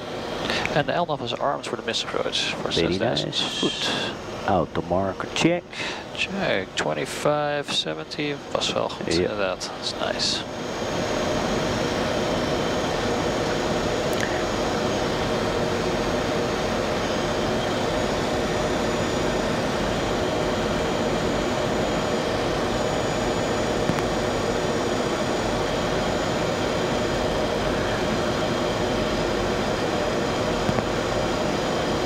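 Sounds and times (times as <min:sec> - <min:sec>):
airliner cockpit airflow and engine hum: 0:00.0 - 0:32.0.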